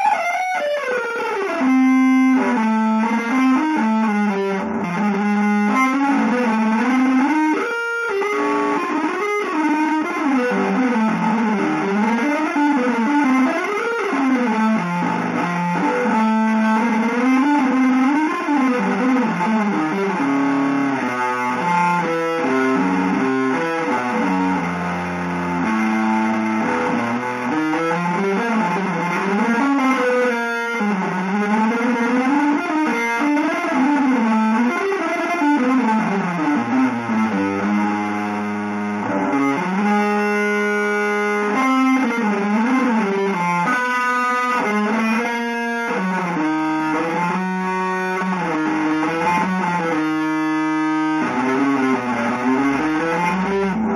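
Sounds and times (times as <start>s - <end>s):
electric guitar sliding notes: 0.0s - 53.9s.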